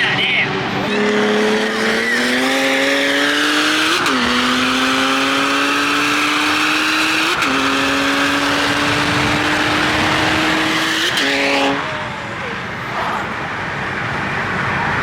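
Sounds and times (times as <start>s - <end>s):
car engine accelerating: 0.0s - 15.0s
wind and tyre noise: 0.0s - 15.0s.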